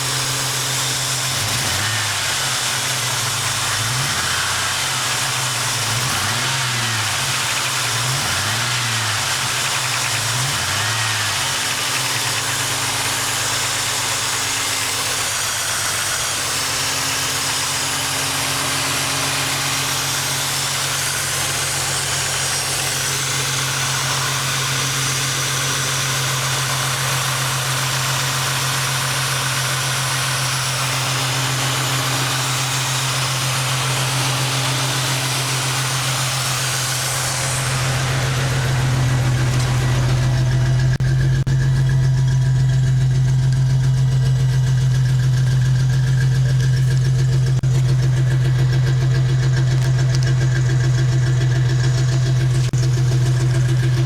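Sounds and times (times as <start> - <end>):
car engine idling with misfire: 0.0 - 54.0.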